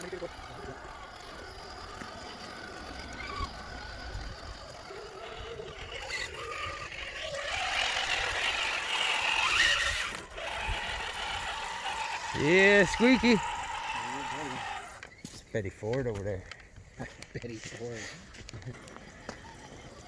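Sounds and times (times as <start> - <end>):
toy truck electric motor whining: 0.0 - 15.4, 17.8 - 20.0.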